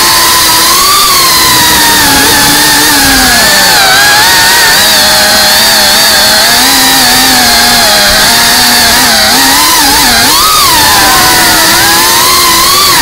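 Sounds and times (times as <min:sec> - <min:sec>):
quadcopter motors buzzing: 0:00.0 - 0:13.0.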